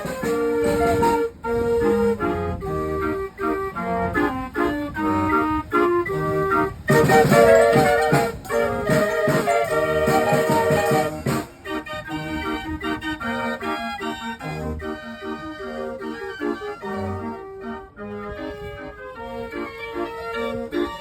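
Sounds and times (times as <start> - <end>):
organ playing a tune: 0.0 - 21.0.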